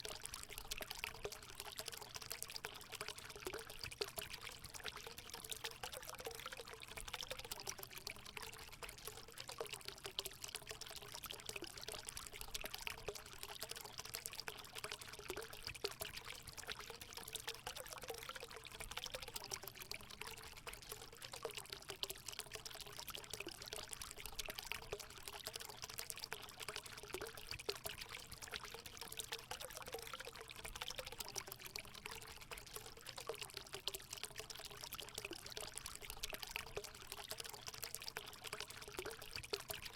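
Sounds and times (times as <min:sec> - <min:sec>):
water gurgling: 0:00.0 - 0:39.9
water pouring into pool: 0:00.0 - 0:39.9.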